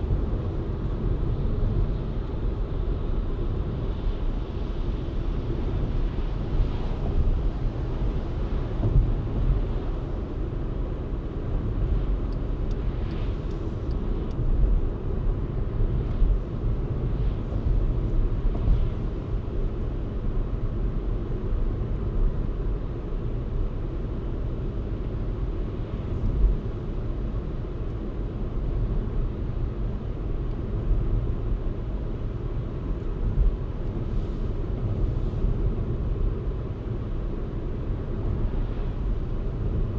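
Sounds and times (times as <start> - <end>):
car engine rumble: 0.0 - 39.9.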